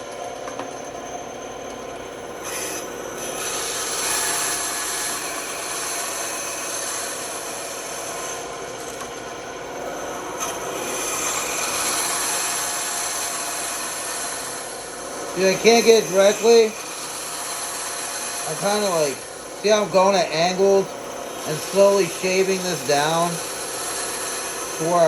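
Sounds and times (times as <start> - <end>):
band saw cutting wood: 2.3 - 25.0.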